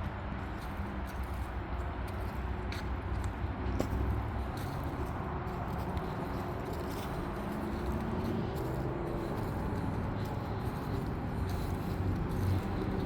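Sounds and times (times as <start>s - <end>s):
highway traffic drone: 0.0s - 13.0s.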